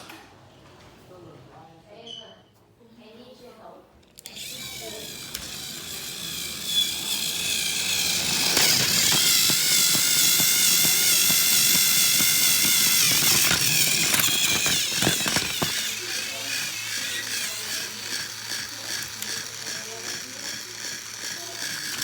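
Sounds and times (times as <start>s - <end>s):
small electric motor whining: 4.2s - 22.0s
rapid clicks clattering: 4.3s - 22.0s.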